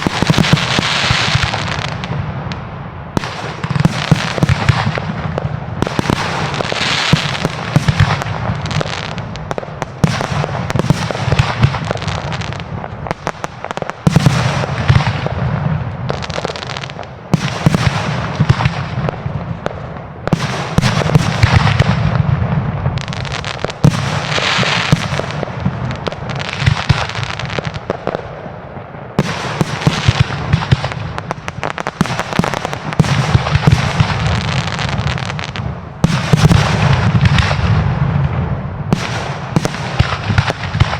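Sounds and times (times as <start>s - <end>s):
fireworks exploding and crackling: 0.0s - 40.9s.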